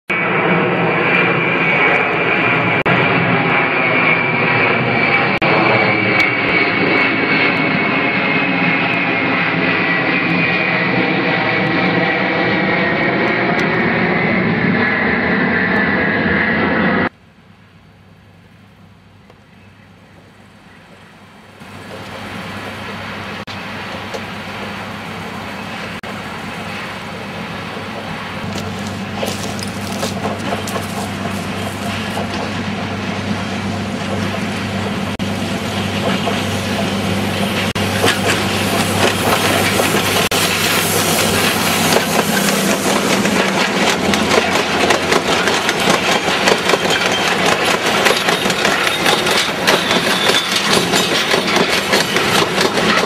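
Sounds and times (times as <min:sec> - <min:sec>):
steady quieter engine: 0:00.1 - 0:46.7
jet plane flying overhead: 0:00.1 - 0:53.0.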